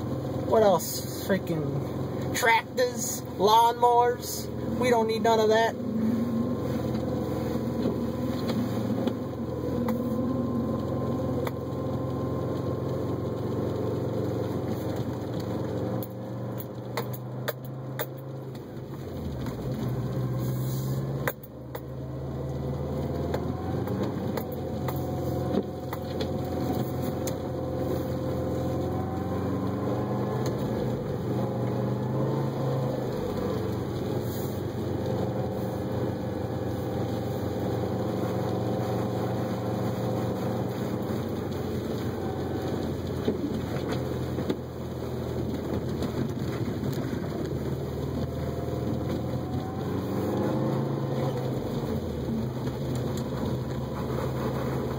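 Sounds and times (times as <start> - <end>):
car engine running at low revs: 0.0 - 54.9.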